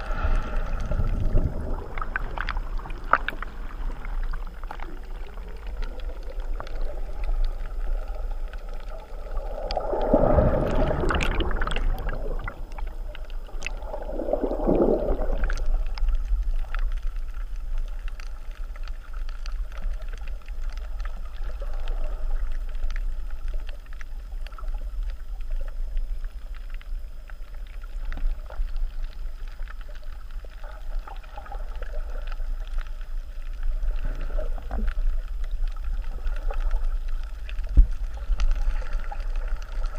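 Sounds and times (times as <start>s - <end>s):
bubbles: 0.0s - 26.2s, 27.6s - 39.9s
underwater water churning: 0.0s - 26.7s, 27.4s - 39.9s.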